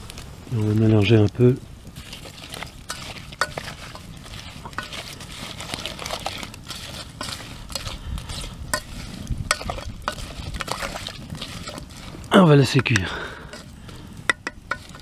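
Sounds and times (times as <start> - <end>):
wooden spoon stirring in metal pot: 1.8 - 15.0.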